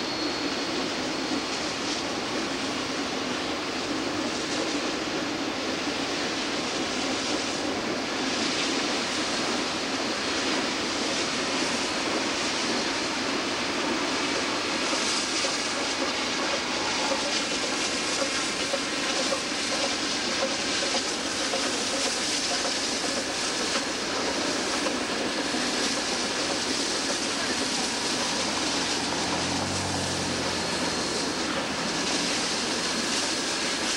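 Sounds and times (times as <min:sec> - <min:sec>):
steam locomotive exhaust rush: 0:00.0 - 0:33.9.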